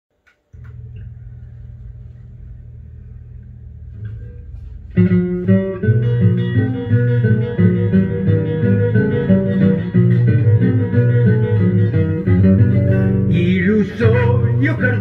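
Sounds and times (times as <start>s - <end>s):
waltz on plucked strings: 0.6s - 15.0s.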